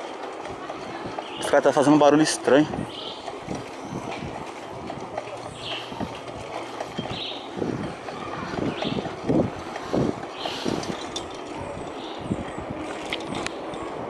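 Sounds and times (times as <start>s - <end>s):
bicycle rattling over paving: 0.0s - 14.0s.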